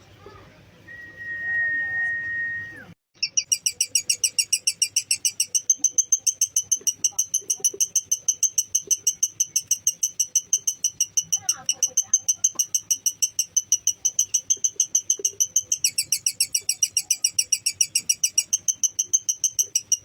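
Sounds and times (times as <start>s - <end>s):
lovebird chattering trill: 3.2s - 20.0s.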